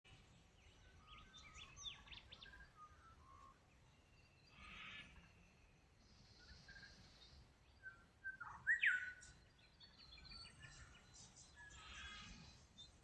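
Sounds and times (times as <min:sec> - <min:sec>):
birds singing and calling: 0:00.1 - 0:13.0.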